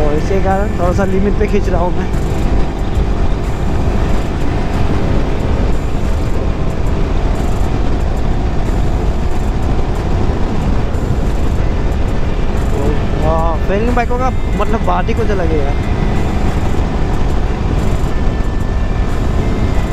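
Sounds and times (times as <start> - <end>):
motorcycle engine cruising: 0.0 - 19.9
wind rushing over microphone: 0.0 - 19.9.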